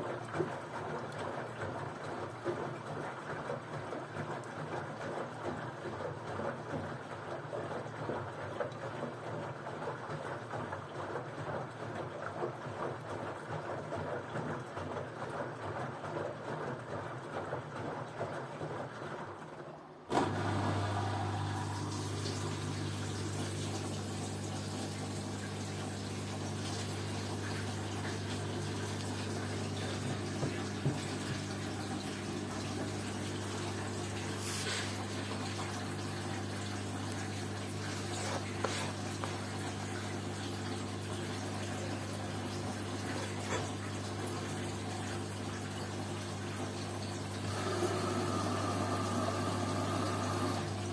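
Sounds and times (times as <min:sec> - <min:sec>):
drain pump humming: 0:00.0 - 0:50.9
water swishing in washing machine: 0:00.0 - 0:50.9.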